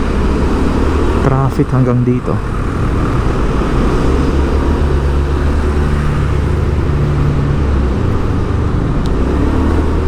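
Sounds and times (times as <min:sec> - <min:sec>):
motorcycle engine humming: 0:00.0 - 0:10.0
road and wind noise: 0:00.0 - 0:10.0.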